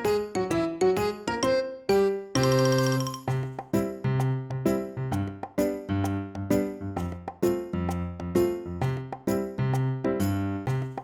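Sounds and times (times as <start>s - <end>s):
bright keyboard notes: 0.0s - 11.0s.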